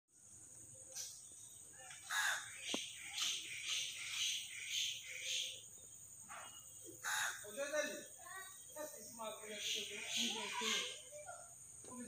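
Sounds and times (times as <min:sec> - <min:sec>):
high insect drone: 0:00.1 - 0:12.0
bird calling: 0:00.8 - 0:11.5.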